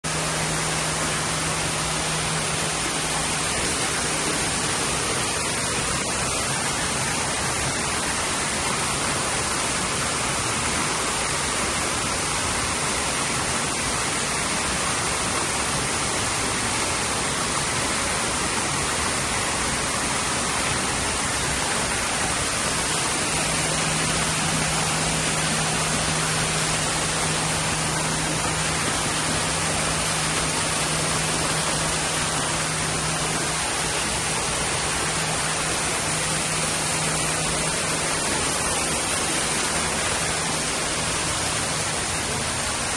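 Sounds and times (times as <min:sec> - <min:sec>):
waterfall rushing: 0:00.0 - 0:42.9
low steady hum: 0:00.1 - 0:42.9.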